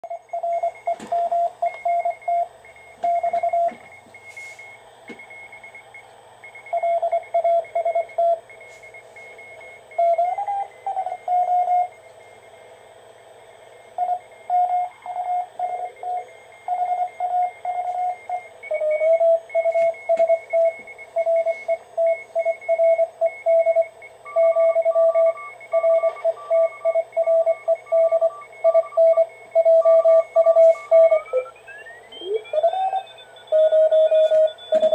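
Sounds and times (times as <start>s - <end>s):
morse code beeps: 0.0s - 12.1s, 13.9s - 34.9s.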